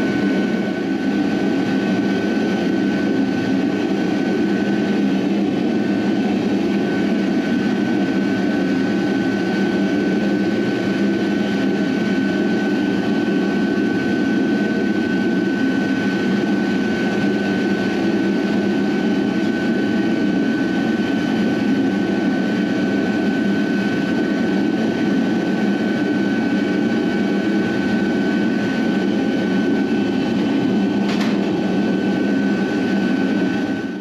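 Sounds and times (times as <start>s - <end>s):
furnace burner rushing: 0.0s - 34.0s.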